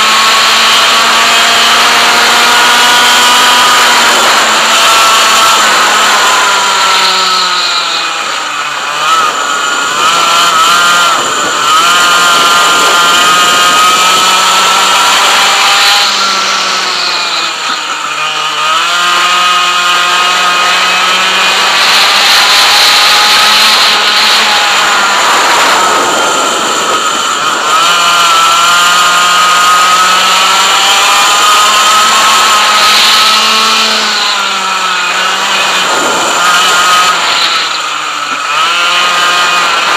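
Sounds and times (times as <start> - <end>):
racing kart engine at full throttle: 0.0 - 39.9.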